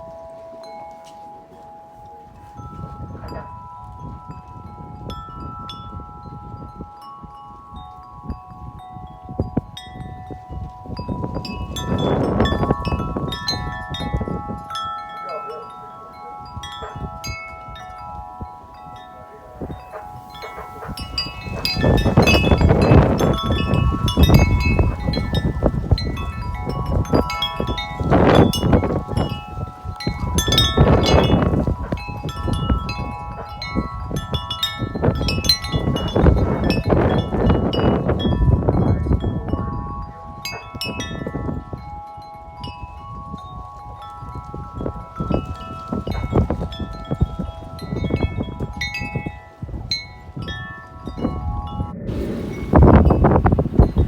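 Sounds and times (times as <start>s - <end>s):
wind buffeting microphone: 0.0s - 54.0s
wind chime ringing: 0.0s - 54.0s.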